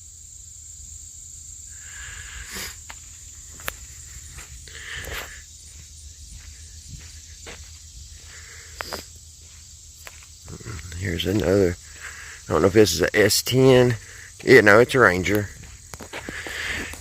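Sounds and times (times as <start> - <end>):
cicadas droning: 0.0 - 17.0
footsteps: 2.5 - 17.0.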